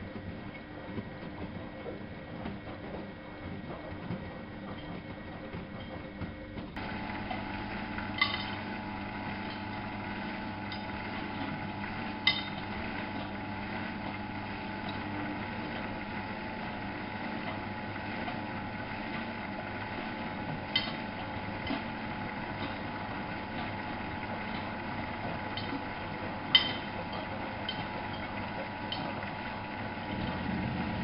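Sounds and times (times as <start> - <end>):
washing machine motor hum: 0.0 - 31.0.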